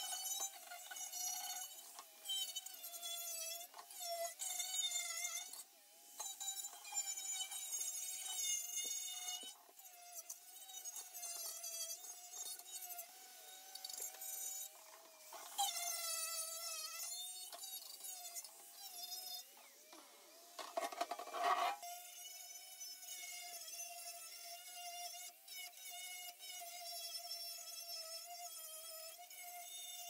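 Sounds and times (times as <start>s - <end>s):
small electric tool motor whining: 0.0s - 30.0s.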